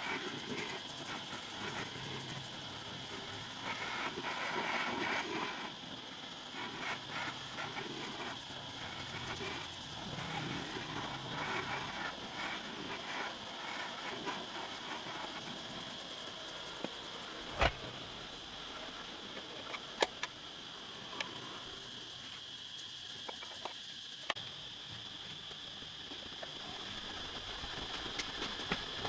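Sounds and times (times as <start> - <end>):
steady high hiss: 0.0 - 29.0.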